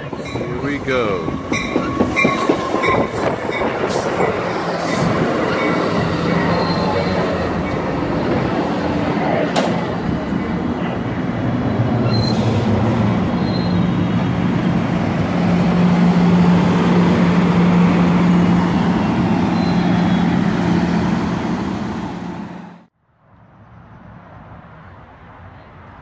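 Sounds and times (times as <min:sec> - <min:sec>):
train rumble: 0:00.0 - 0:22.9.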